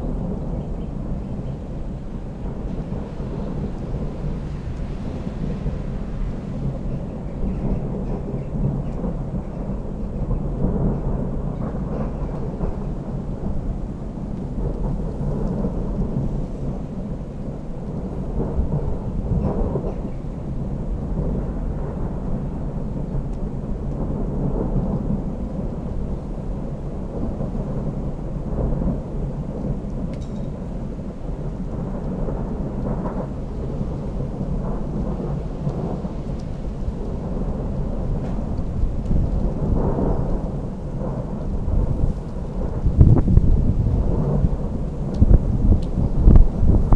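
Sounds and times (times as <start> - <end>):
rain: 0.0 - 46.9
thunder rumbling: 0.0 - 46.9.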